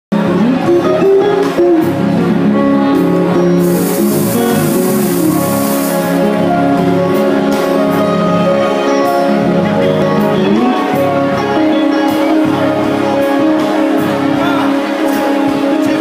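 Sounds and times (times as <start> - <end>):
drum kit: 0.2 - 16.0
electric guitar playing: 0.2 - 16.0.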